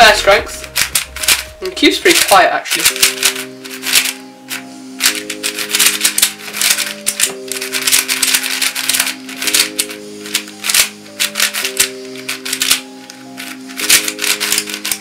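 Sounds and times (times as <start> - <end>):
background music with held notes: 0.0 - 15.0
puzzle cube clicking: 0.0 - 15.0.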